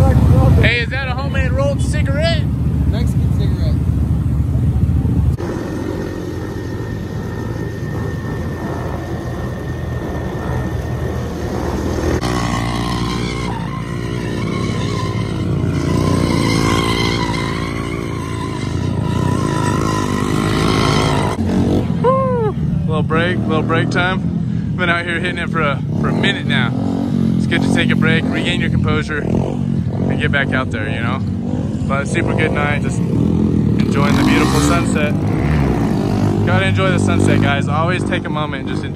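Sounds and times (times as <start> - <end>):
mini bike engines revving: 0.0 - 38.9.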